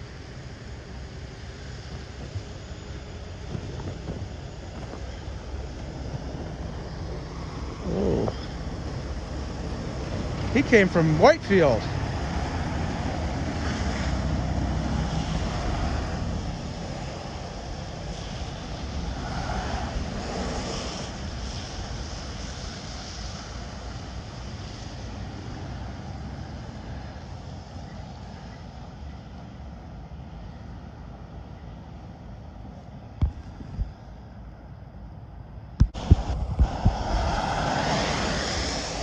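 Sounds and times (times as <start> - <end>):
heavy trucks passing: 0.0 - 33.1, 34.0 - 39.0.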